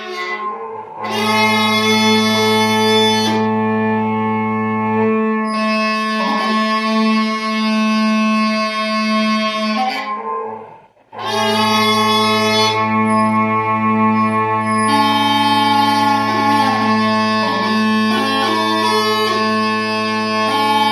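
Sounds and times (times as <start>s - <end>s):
smallpipes playing: 0.0s - 20.9s.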